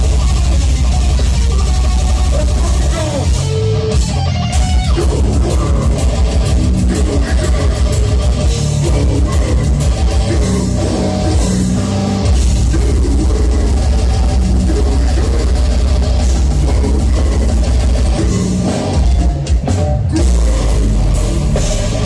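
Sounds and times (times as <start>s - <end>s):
heavy metal band playing live: 0.0s - 22.0s
rapid drum and cymbal hits: 0.0s - 22.0s.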